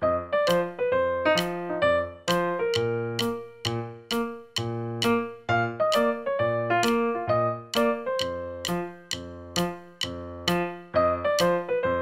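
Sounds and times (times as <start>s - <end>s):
bright piano melody: 0.0s - 12.0s.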